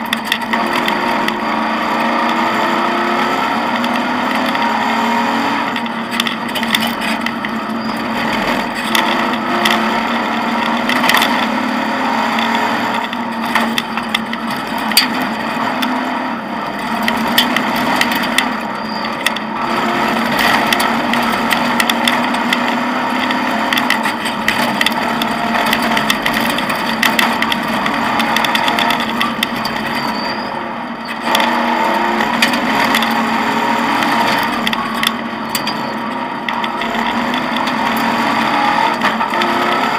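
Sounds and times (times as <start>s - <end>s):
car rattling and knocking: 0.0s - 39.9s
rally car engine under load: 0.0s - 39.9s.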